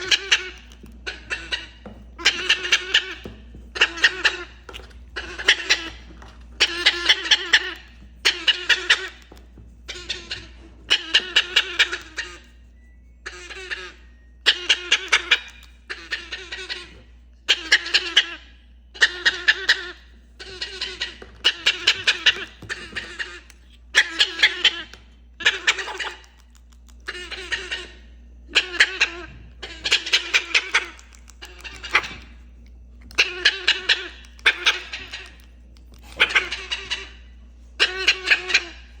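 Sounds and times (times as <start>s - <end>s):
parrot imitating laughter: 0.0s - 12.5s, 13.3s - 18.4s, 19.0s - 26.4s, 27.0s - 32.3s, 33.1s - 39.0s.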